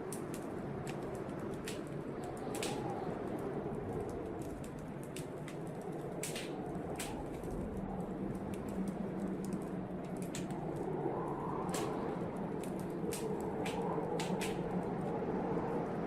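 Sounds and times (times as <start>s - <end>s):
blizzard wind rushing: 0.0s - 16.0s
wood fire crackling: 0.0s - 16.0s.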